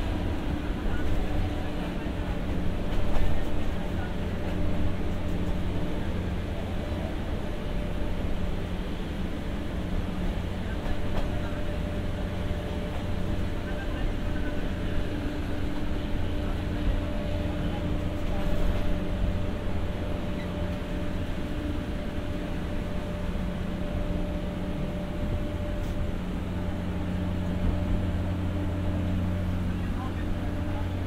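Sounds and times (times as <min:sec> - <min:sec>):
railcar running noise: 0:00.0 - 0:31.0.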